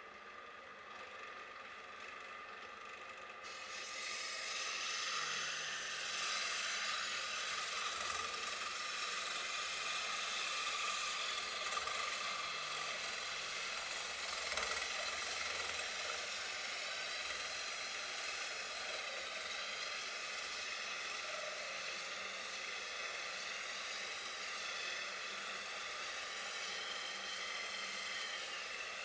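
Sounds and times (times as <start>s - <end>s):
faint motor whine: 0.0s - 29.0s
lathe tool scraping wood: 3.5s - 29.0s.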